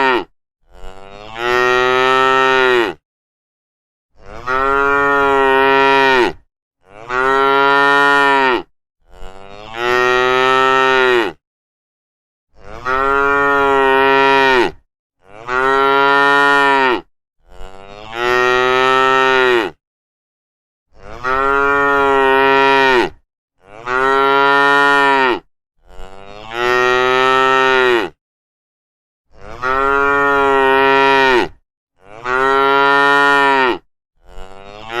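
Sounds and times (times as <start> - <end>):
cattle mooing: 0.0 - 3.0, 4.2 - 11.4, 12.6 - 19.8, 21.0 - 28.2, 29.3 - 35.0.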